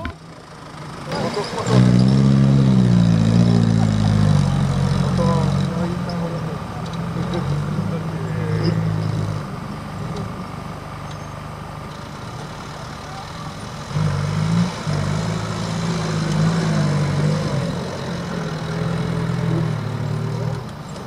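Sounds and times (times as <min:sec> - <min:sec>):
truck engine pulling at low revs: 0:00.0 - 0:21.0.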